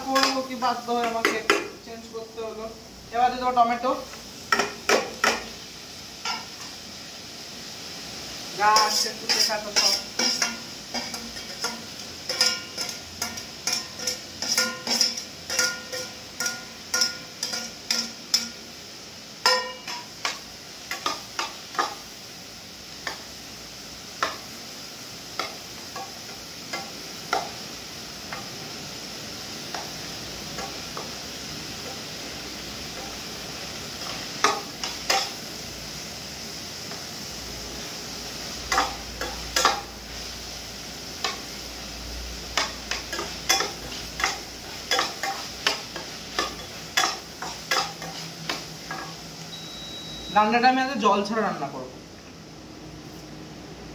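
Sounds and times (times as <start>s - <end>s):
frying sizzle: 0.0s - 53.9s.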